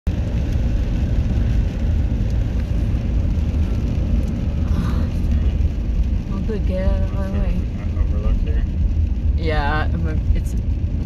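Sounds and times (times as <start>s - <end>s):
car tyres on wet road: 0.1s - 11.0s.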